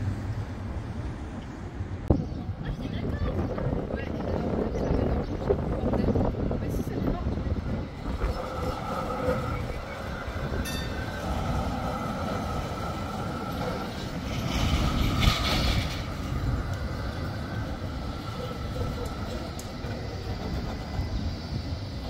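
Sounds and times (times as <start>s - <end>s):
tram rumbling on track: 0.0s - 22.0s.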